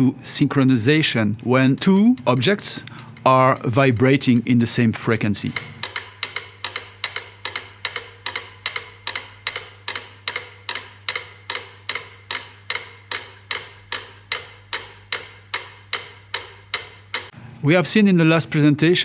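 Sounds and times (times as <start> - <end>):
metronomes ticking: 0.8 - 17.4.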